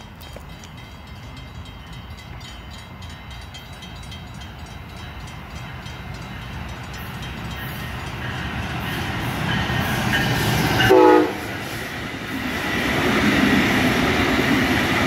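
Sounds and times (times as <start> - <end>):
passenger train rumble approaching: 0.0 - 15.0.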